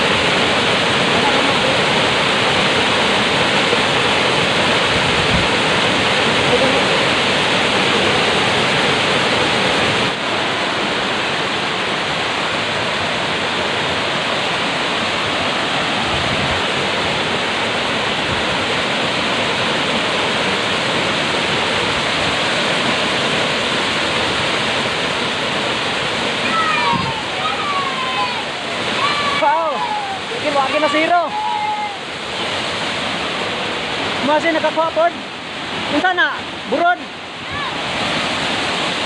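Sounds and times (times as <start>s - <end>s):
rushing river water: 0.0s - 39.0s.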